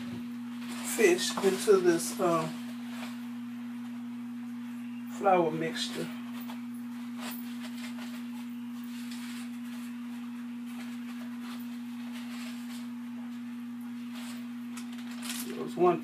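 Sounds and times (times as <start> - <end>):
steady electrical hum: 0.0 - 16.0
paper towels crinkling: 0.4 - 3.4, 5.8 - 15.7.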